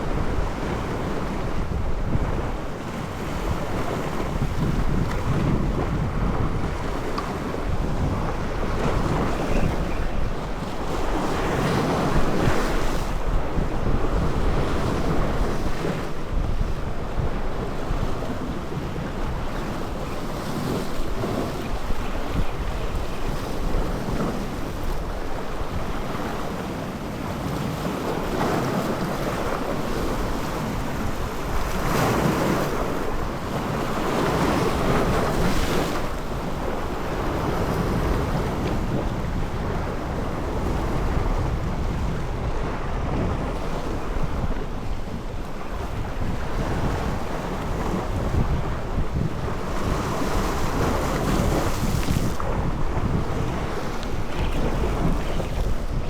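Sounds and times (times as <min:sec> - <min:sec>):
sea waves washing: 0:00.0 - 0:56.0
wind buffeting microphone: 0:00.0 - 0:56.0.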